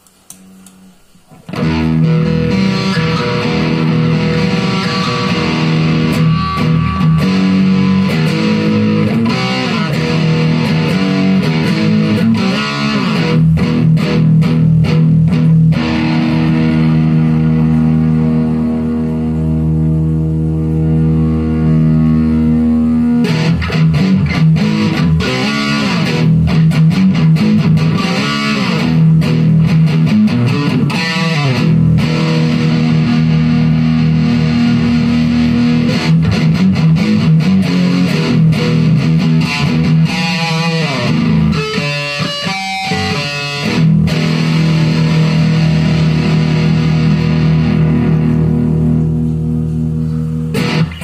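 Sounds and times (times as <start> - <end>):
distorted electric guitar: 0.0 - 51.0.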